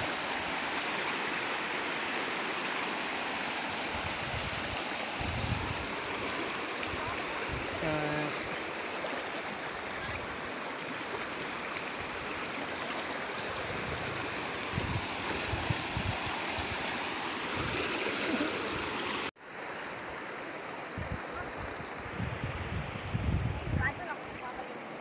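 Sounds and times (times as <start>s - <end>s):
stream rushing over rocks: 0.0s - 25.0s.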